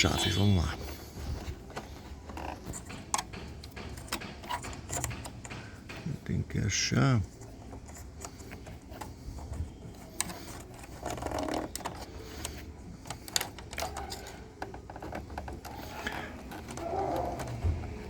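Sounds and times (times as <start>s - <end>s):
metal parts and tools clicking: 0.0s - 18.0s.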